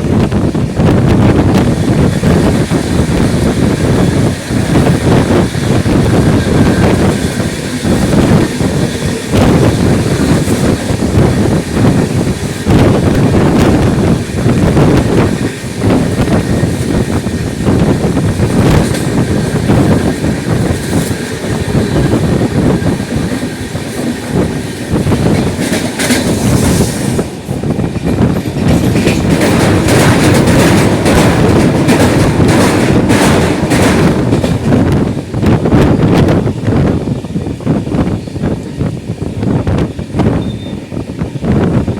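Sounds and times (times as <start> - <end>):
train wheels clattering over rail joints: 0.5 - 36.9.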